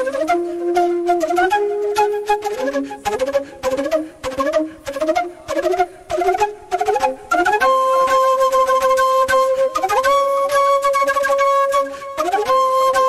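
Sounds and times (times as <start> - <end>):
flute melody: 0.0 - 13.0.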